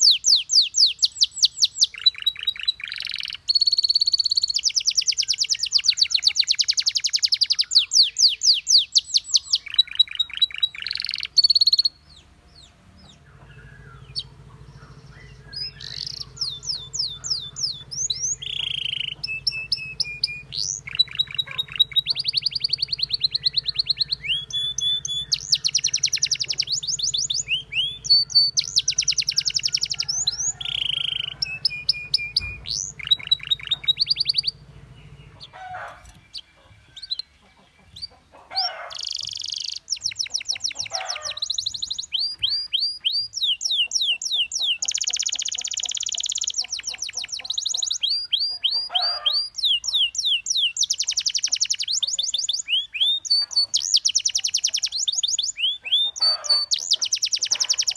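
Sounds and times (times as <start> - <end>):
canary trilling song: 0.0 - 57.9.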